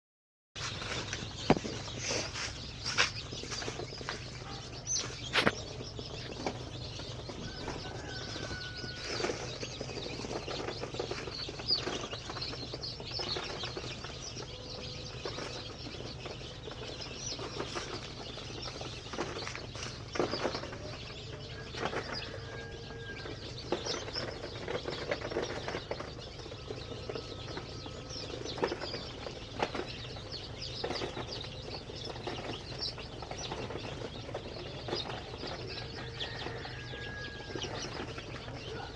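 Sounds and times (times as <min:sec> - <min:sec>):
chicks scrabbling: 0:00.6 - 0:38.9
chick calls: 0:00.7 - 0:38.9.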